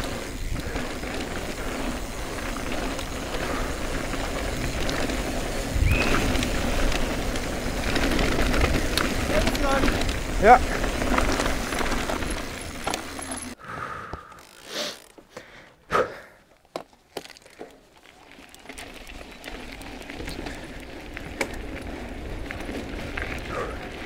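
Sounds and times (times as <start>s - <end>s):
bike tyres rolling over dirt: 0.0s - 15.3s, 16.6s - 24.0s
bike clicks and knocks: 0.0s - 15.5s, 16.5s - 24.0s.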